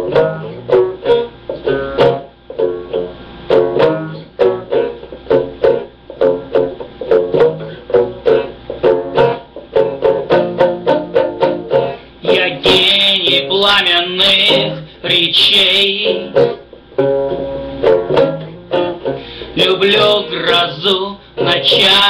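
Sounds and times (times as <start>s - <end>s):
plucked string chords: 0.0s - 22.0s.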